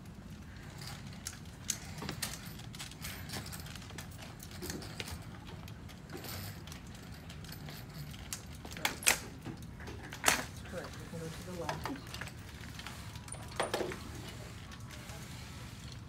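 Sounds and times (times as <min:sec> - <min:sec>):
walker clicking and knocking: 0:00.5 - 0:16.0.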